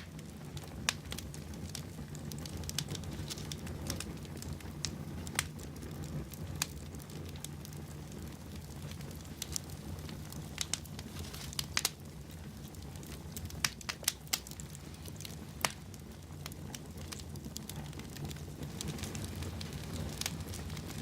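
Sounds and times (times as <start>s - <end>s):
fire rumbling: 0.0s - 21.0s
wood fire crackling and popping: 0.0s - 21.0s.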